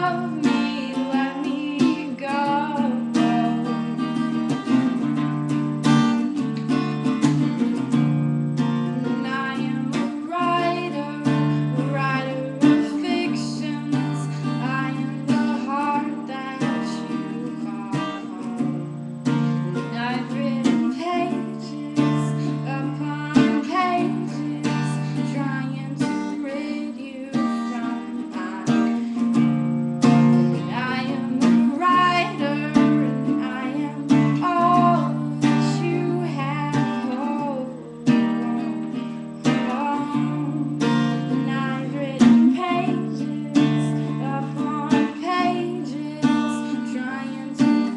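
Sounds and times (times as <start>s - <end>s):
acoustic guitar strumming: 0.0s - 47.9s
woman singing: 0.0s - 47.9s.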